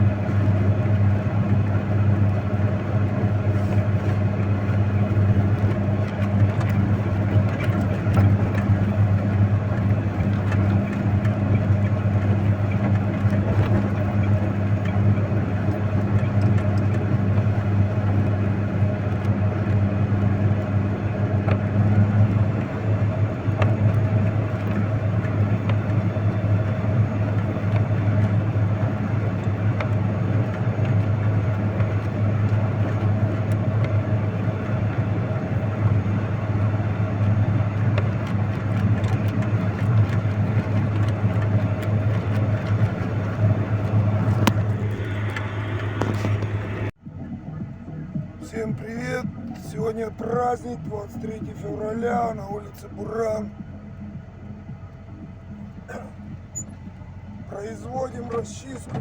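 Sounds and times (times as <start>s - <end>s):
mechanical and road noise: 0.0s - 59.0s
vehicle engine running steadily: 0.0s - 59.0s.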